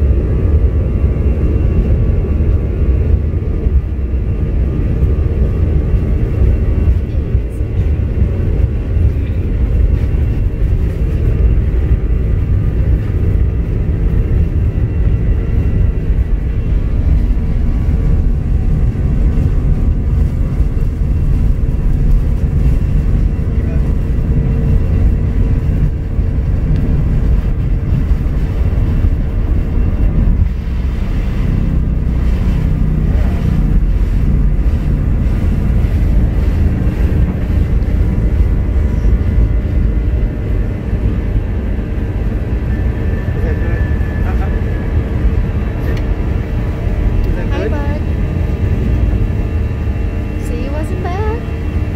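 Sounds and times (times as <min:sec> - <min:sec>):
jet engines rumbling: 0:00.0 - 0:51.9
steady hum: 0:00.0 - 0:51.9.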